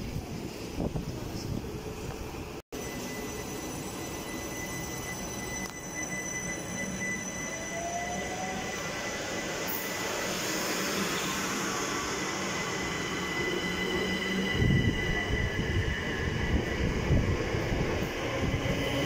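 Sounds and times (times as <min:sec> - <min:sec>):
train rumbling past: 0:00.0 - 0:19.0
high-pitched train whine: 0:01.8 - 0:19.0.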